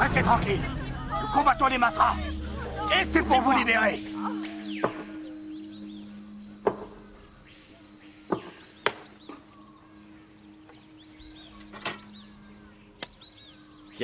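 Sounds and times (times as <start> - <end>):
insects whining: 0.0 - 14.0.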